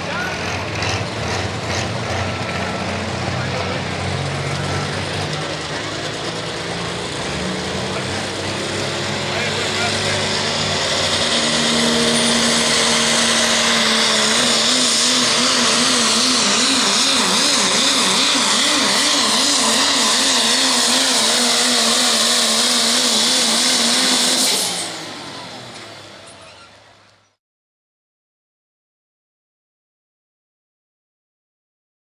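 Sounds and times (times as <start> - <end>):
truck engine at full throttle: 0.0 - 27.4.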